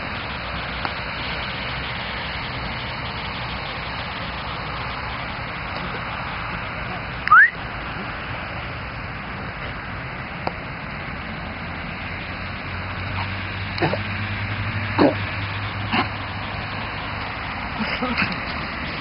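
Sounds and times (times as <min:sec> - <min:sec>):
rushing background noise: 0:00.0 - 0:19.0.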